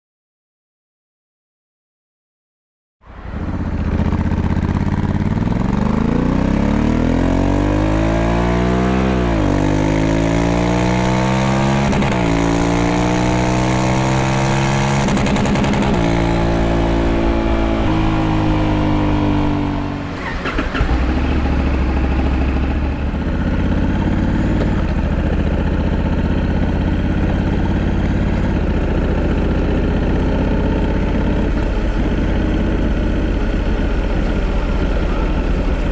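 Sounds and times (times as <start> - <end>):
motorcycle engine accelerating: 3.1 - 35.9.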